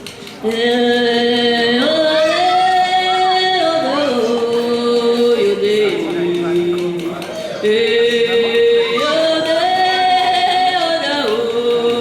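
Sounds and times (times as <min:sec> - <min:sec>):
music with person singing: 0:00.0 - 0:12.0.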